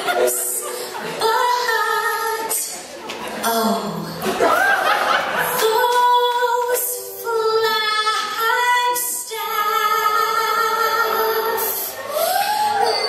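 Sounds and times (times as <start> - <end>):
woman singing into microphone: 0.0 - 4.2, 5.5 - 13.0.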